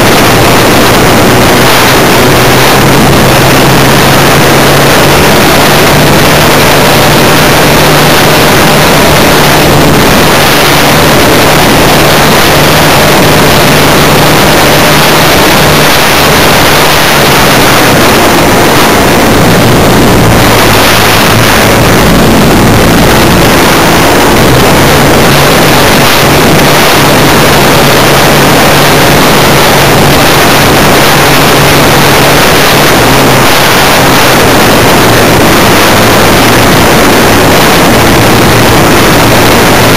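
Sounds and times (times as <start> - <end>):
model airplane engine running: 0.0 - 39.9
wind rush: 0.0 - 39.9.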